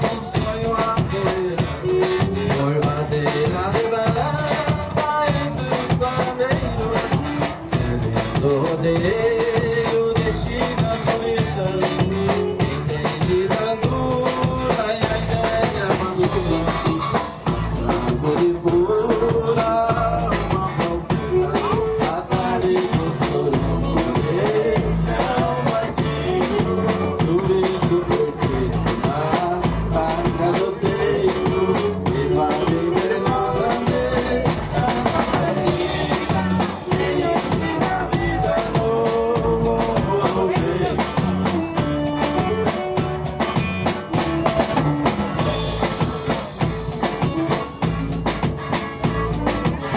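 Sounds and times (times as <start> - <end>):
button accordion melody: 0.0 - 49.9
drum kit and bass beat: 0.0 - 49.9.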